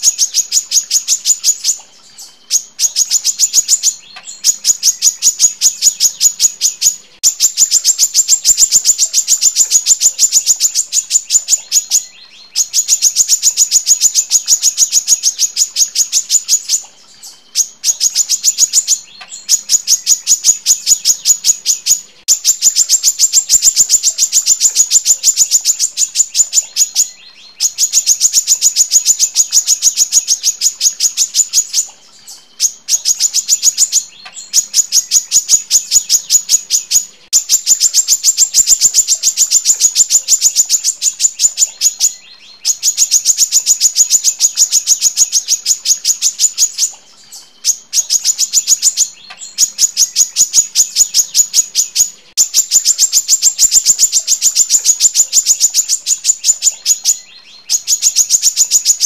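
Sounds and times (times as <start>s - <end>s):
bird singing high chirps: 0.0s - 59.0s.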